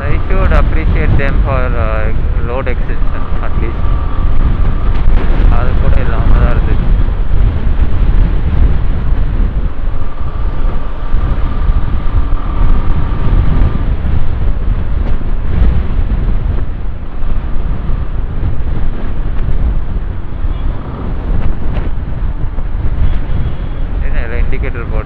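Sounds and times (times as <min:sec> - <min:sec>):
motorcycle ride rumble: 0:00.0 - 0:25.0
wind buffeting microphone: 0:00.0 - 0:25.0.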